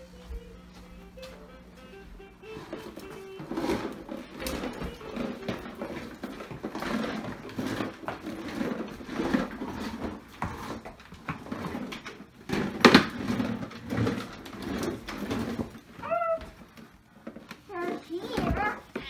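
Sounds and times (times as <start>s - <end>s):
toy car wheels rumbling on floor: 1.9s - 19.0s.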